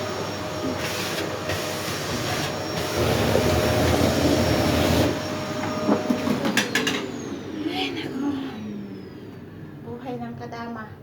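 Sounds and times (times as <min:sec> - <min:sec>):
vacuum cleaner motor whining: 0:00.0 - 0:09.9.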